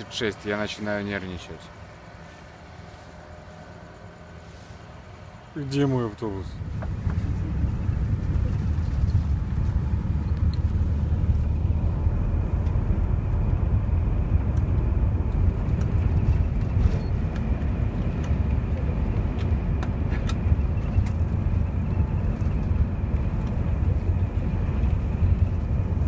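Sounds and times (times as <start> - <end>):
bus engine rumble: 0.0 - 26.0
road noise: 0.0 - 26.0.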